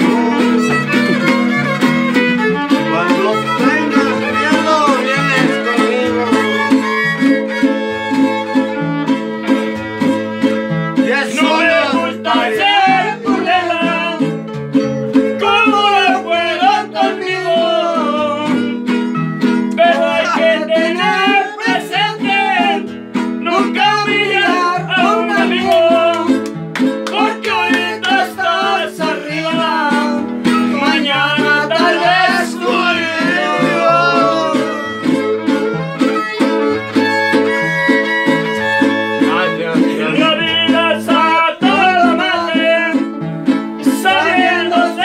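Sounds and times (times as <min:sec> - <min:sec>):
violin melody: 0:00.0 - 0:26.7, 0:27.3 - 0:45.0
guitar accompaniment: 0:00.0 - 0:45.0.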